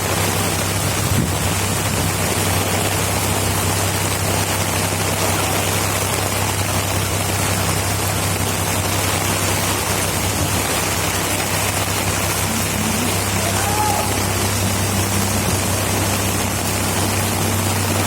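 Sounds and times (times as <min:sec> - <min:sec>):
heavy rain falling: 0:00.0 - 0:18.0
low steady hum: 0:00.0 - 0:18.0.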